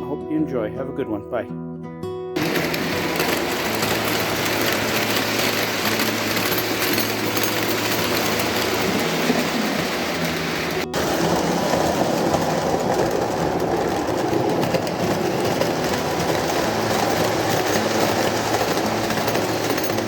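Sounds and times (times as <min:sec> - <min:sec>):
model train motor hum: 0:02.4 - 0:20.0
wheels clattering over track: 0:02.4 - 0:20.0.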